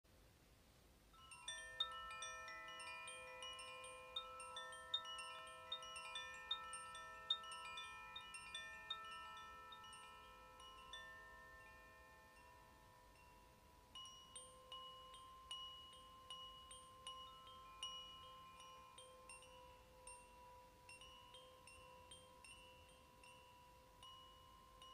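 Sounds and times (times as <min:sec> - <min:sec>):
wind chime ringing: 0:01.1 - 0:24.9.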